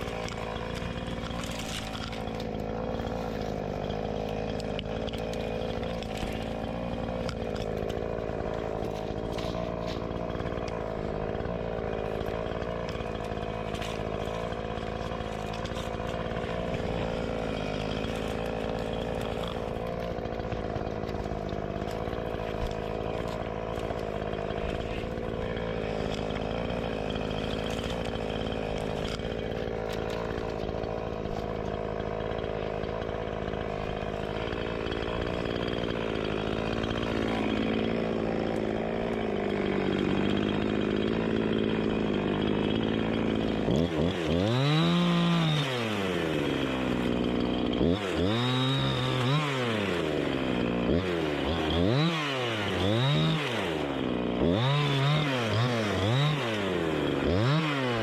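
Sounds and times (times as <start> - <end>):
chainsaw running under load: 0.0 - 58.0.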